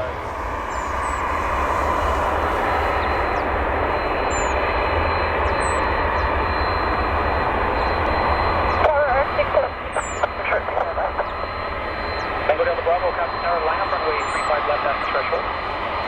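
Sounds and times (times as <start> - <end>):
airliner engines rushing: 0.0 - 16.0
thin high whine: 0.0 - 16.0.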